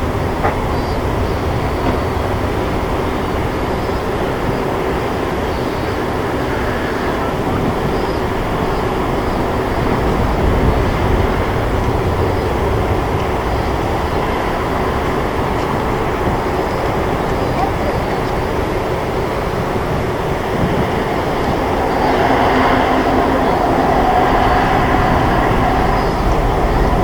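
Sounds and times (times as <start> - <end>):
jet engines rumbling: 0.0 - 27.0
wind on microphone: 0.0 - 27.0.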